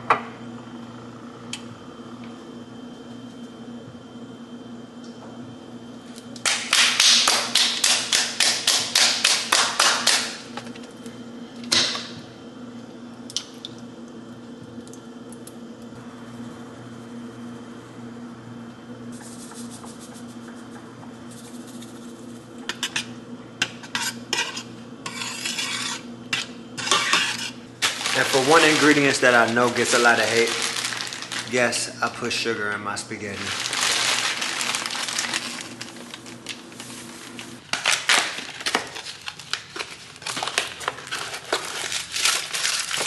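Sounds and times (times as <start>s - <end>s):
steady low hum: 0.0s - 37.8s.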